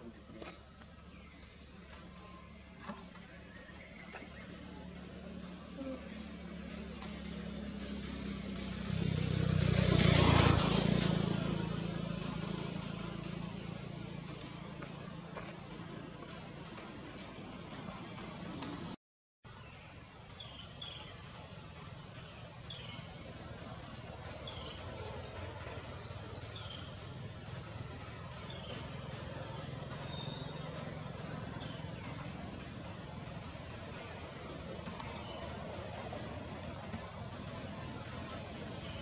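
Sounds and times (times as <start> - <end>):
small birds chirping: 0.0 - 18.9, 19.5 - 39.0
low outdoor background noise: 0.0 - 39.0.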